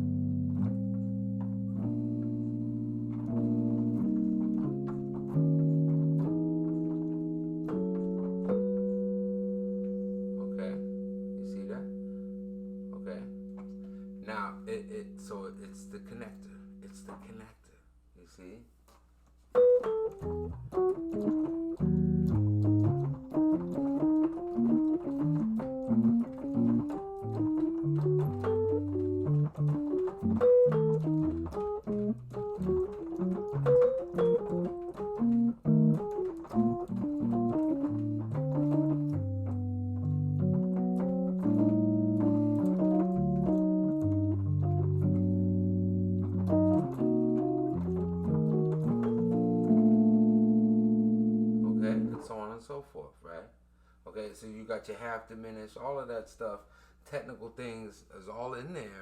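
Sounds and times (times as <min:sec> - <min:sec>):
jazz keyboard runs and chords: 0:00.0 - 0:17.2, 0:19.5 - 0:52.4
bass notes: 0:00.0 - 0:17.3, 0:19.6 - 0:52.4.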